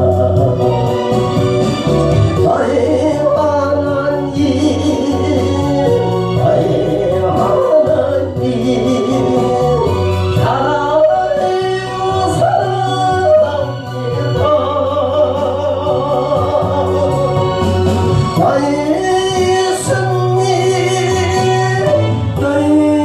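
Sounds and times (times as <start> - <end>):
instrumental accompaniment with bass: 0.0 - 23.0
person singing gospel song: 0.0 - 23.0.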